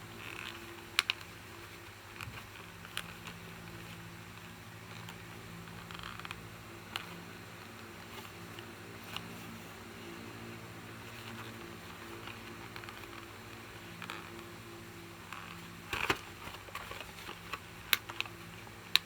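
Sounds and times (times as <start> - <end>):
soft plastic rustling: 0.0 - 19.0
steady low hum: 0.0 - 19.0.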